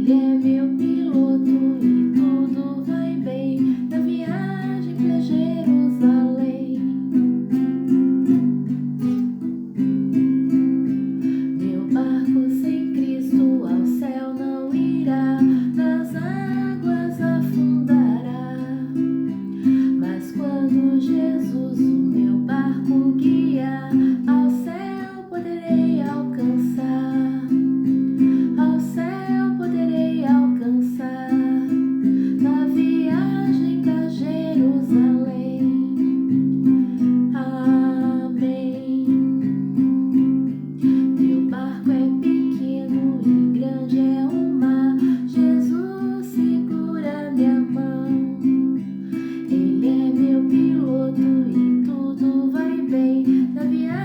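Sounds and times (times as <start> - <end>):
person singing: 0.0 - 7.2, 11.2 - 54.0.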